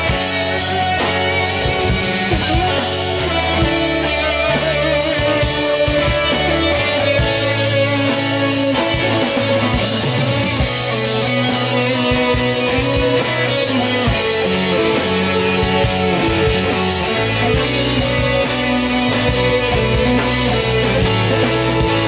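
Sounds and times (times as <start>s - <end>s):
bass guitar: 0.0s - 22.0s
drum kit steady beat: 0.0s - 22.0s
electric guitars: 0.0s - 22.0s.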